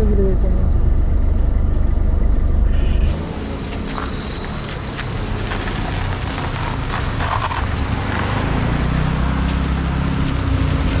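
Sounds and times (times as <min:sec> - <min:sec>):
traffic rumble: 0:00.0 - 0:11.0
vehicle engine hum: 0:00.0 - 0:11.0.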